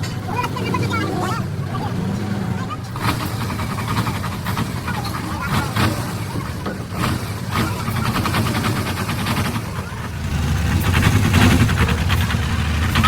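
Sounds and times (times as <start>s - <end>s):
engine running with pulsing rumble: 0.0s - 13.0s.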